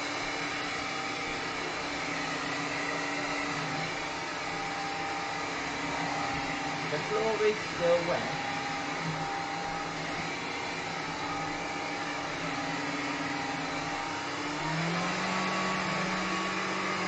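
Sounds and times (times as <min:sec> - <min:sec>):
floor cleaner motor whirring: 0:00.0 - 0:17.0.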